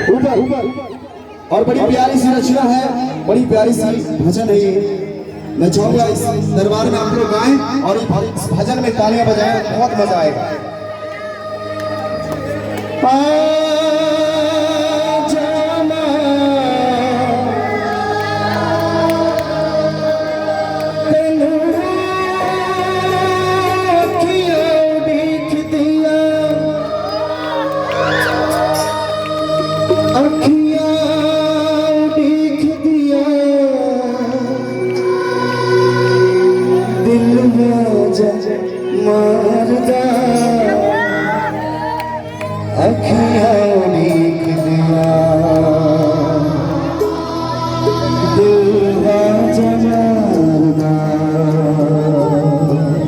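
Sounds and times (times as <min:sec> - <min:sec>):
devotional song with held notes: 0:00.0 - 0:53.0
steady musical accompaniment: 0:00.0 - 0:53.0.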